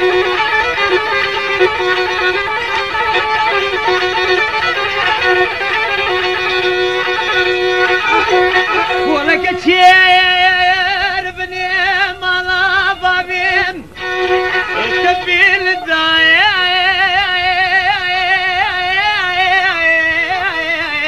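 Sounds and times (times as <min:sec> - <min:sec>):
violin melody with vibrato: 0:00.0 - 0:21.0.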